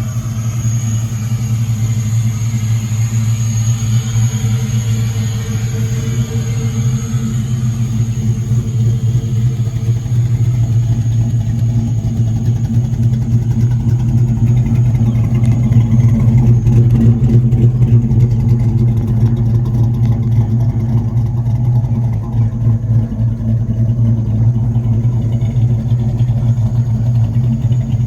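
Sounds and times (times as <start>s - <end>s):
engine running low hum: 0.0s - 28.0s.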